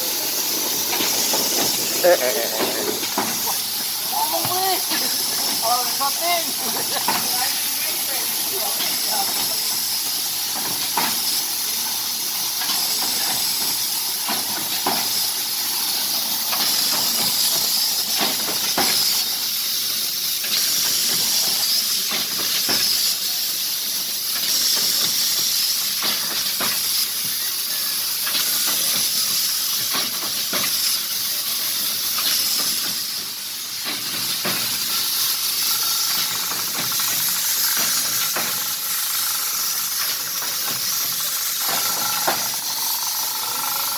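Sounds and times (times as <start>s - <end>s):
trimming machine hissing: 0.0s - 43.9s.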